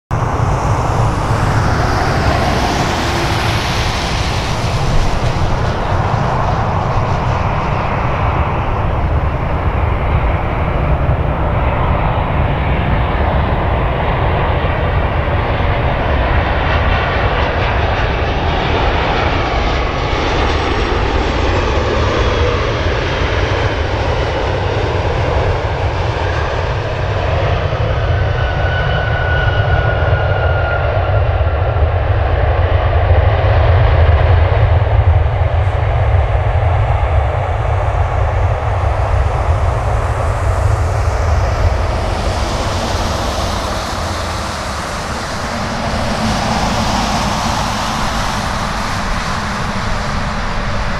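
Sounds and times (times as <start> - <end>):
jet engine rumble with whine: 0.1 - 50.9.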